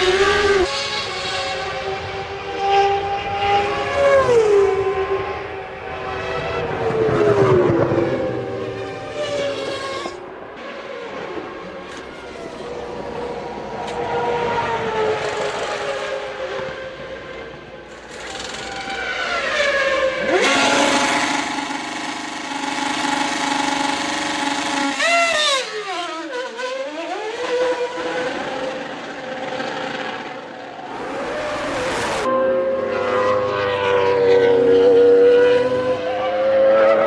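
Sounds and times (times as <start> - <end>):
racing car engines revving: 0.0 - 37.0.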